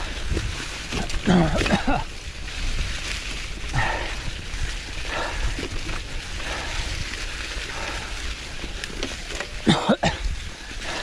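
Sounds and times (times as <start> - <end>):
rider breathing hard: 0.0 - 1.3, 2.0 - 9.6, 10.2 - 11.0
bike rattling: 0.0 - 11.0
bike tyres rumbling on trail: 0.0 - 11.0.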